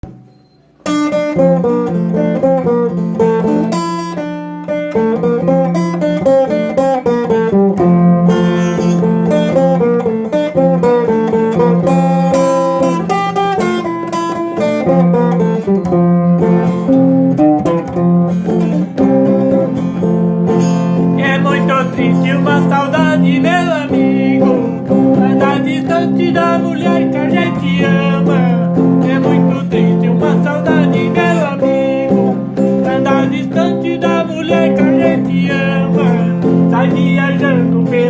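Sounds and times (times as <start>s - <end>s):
plucked acoustic guitar: 0.0s - 38.0s.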